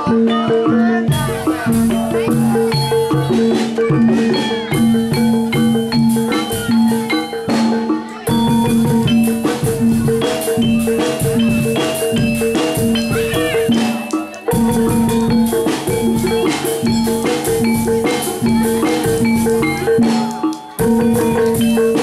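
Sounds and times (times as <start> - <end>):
drums in steady rhythm: 0.0 - 22.0.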